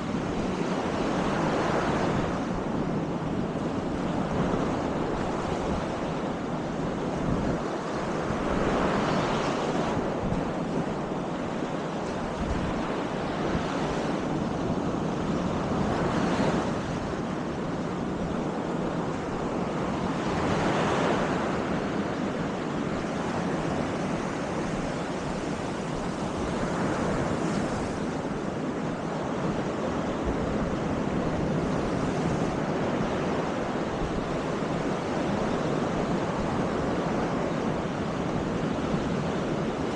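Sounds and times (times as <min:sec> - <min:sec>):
waves washing on beach: 0:00.0 - 0:39.9
wind buffeting microphone: 0:00.0 - 0:39.9.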